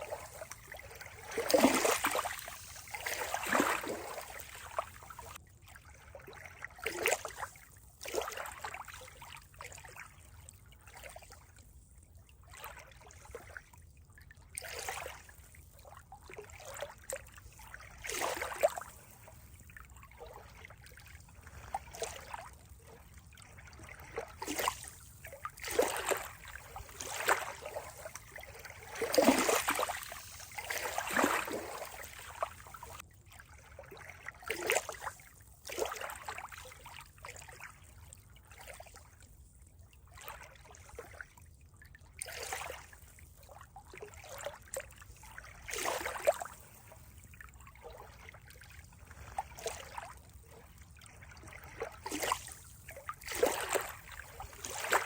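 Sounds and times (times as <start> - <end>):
water trickling and gurgling: 0.0 - 55.0.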